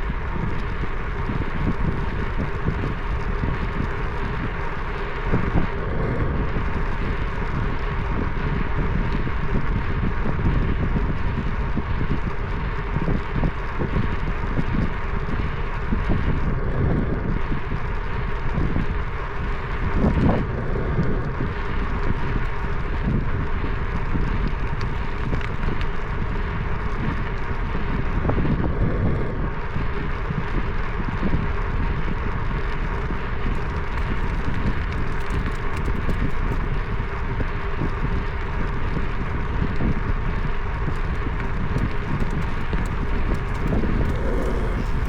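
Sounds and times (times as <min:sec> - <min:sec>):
wind rushing on microphone: 0:00.0 - 0:45.0.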